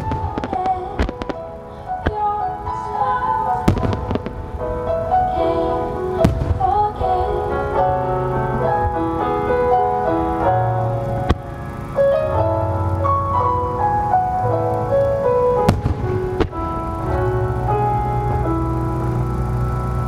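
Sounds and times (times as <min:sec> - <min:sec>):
fireworks bursting: 0:00.0 - 0:20.0
music with sustained melody: 0:00.0 - 0:20.0.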